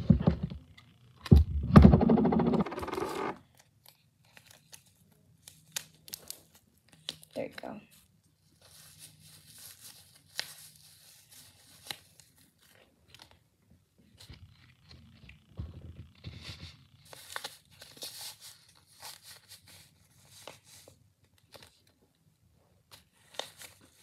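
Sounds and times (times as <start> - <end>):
paper crinkling and rustling: 2.6 - 22.2, 22.8 - 24.0.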